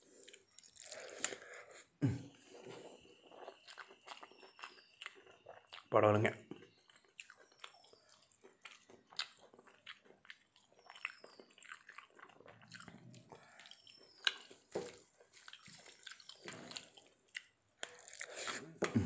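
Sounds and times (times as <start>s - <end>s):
chewing food: 0.0s - 19.0s.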